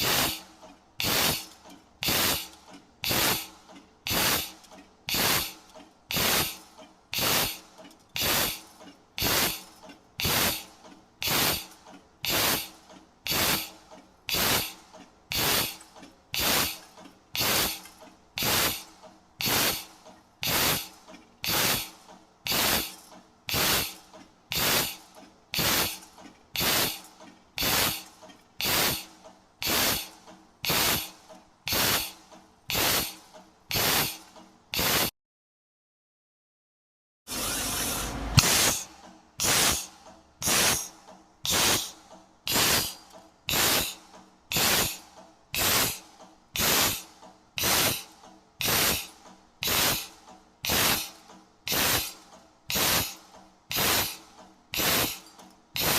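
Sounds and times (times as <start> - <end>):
punching machine strokes: 0.0 - 35.1, 37.3 - 55.9.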